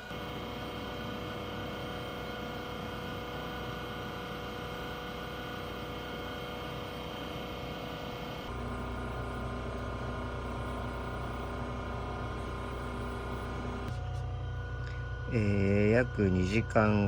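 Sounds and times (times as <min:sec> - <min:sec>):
machine hum with whining tones: 0:00.0 - 0:17.0.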